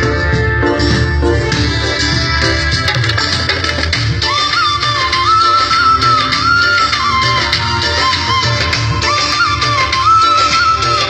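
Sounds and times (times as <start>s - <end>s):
instrumental melody over low accompaniment: 0.0s - 11.0s.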